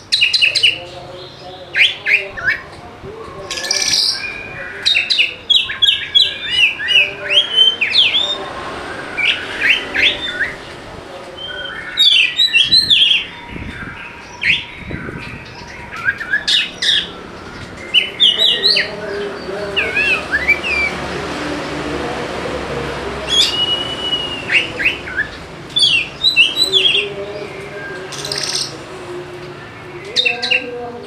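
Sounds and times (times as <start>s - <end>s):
bird singing varied song: 0.0s - 31.0s.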